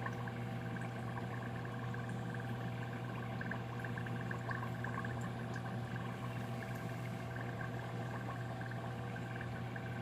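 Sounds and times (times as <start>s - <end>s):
aquarium pump hum: 0.0s - 10.0s
faint bubbling: 0.0s - 10.0s
water ticks: 0.0s - 10.0s.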